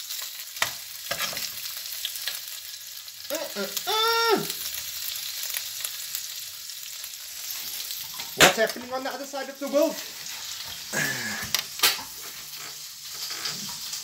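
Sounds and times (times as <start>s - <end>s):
squid sizzling in oil: 0.0s - 14.0s.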